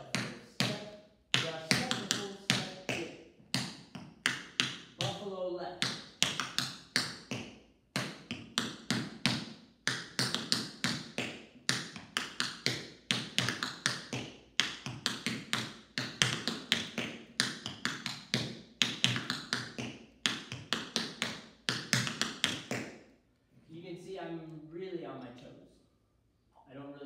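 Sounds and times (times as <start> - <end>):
tap shoes on wooden floor: 0.0 - 23.0.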